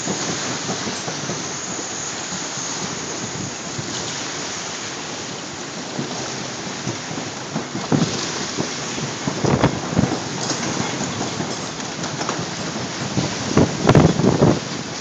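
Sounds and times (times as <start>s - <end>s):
heavy rain: 0.0s - 15.0s
wind gusts buffeting microphone: 0.0s - 15.0s.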